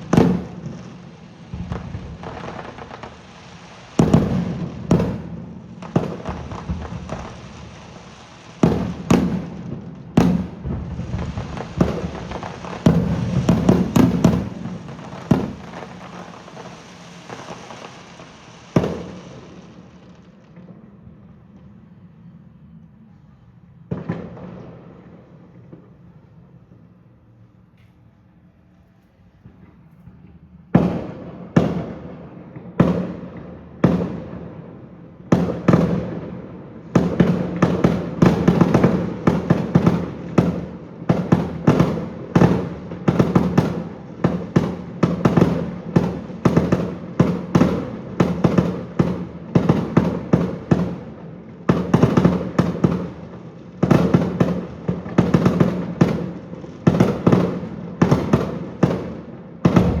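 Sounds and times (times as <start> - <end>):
fireworks bursting with sharp bangs: 0.0 - 22.0, 23.7 - 26.9, 29.1 - 60.0.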